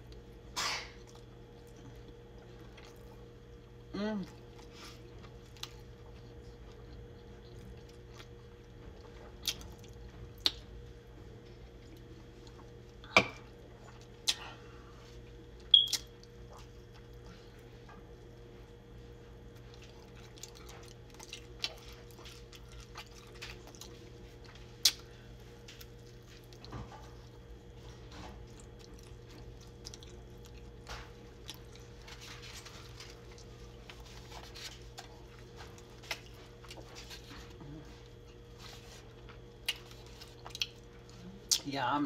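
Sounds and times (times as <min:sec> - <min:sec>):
faint steady hum: 0:00.0 - 0:42.0
chewing with wet smacks: 0:01.0 - 0:41.8.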